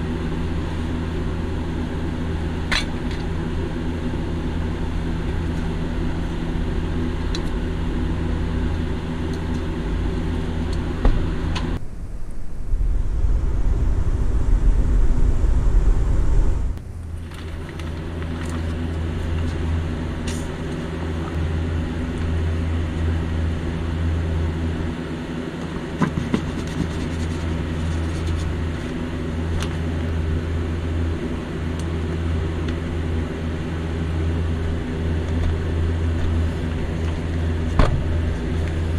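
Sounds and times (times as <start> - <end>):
low machine hum: 0.0 - 38.9.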